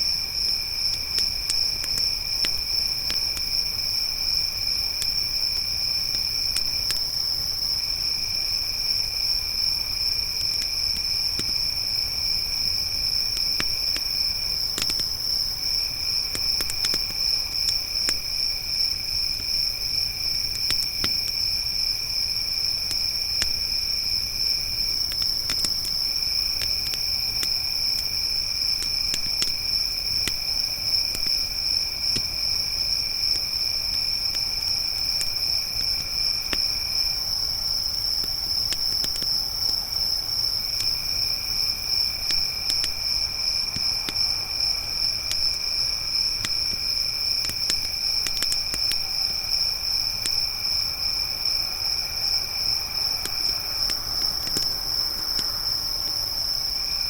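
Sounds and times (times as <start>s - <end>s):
crickets chirping: 0.0s - 57.0s
lower insect call: 0.0s - 57.0s
campfire crackling: 0.2s - 57.0s.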